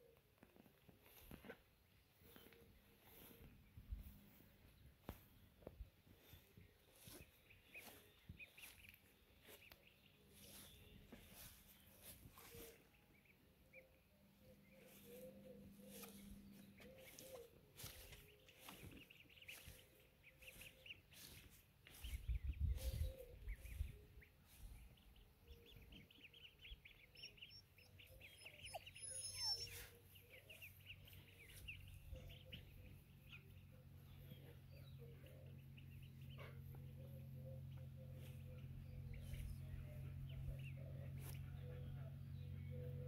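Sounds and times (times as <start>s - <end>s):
ducklings peeping: 0.0s - 43.0s.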